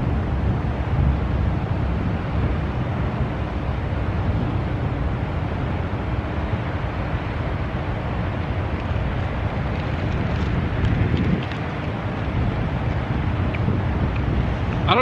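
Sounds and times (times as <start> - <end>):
road traffic rumble: 0.0 - 15.0
wind buffeting microphone: 0.0 - 15.0.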